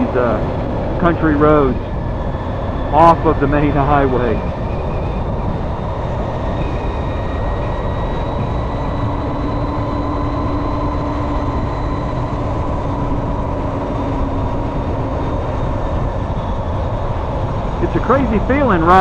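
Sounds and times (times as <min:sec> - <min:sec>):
electric motor high whine: 0:00.0 - 0:19.0
low steady hum: 0:00.0 - 0:19.0
wind and road noise: 0:00.0 - 0:19.0.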